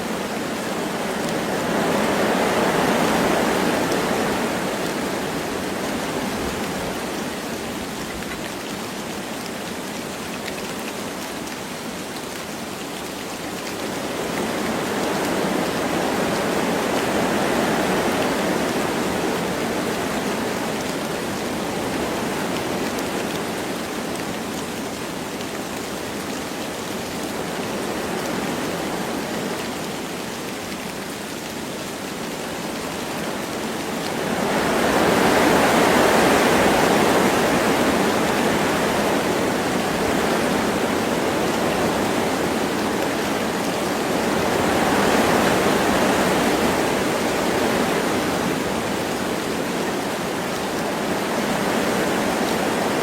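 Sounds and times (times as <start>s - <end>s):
light rain: 0.0s - 53.0s
wind through trees: 0.0s - 53.0s.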